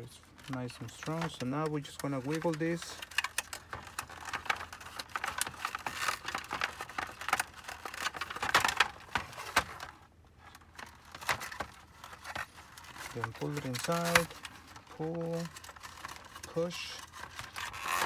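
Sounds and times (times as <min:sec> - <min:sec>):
plastic rustling and clicks: 0:00.3 - 0:18.0.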